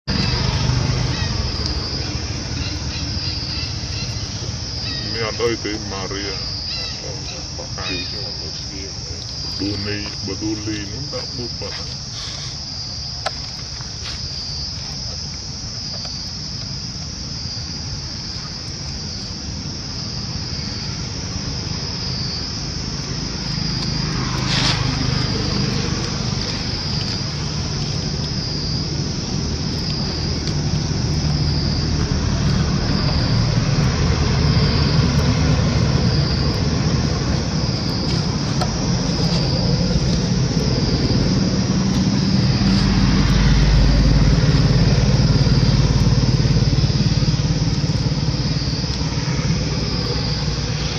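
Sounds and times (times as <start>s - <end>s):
insects droning: 0.0s - 50.9s
vehicle engine rumble: 0.0s - 50.9s.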